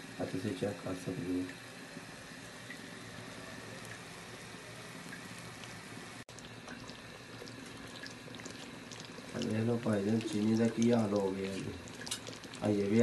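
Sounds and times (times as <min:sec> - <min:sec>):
sugar syrup boiling in a pot: 0:00.1 - 0:13.0.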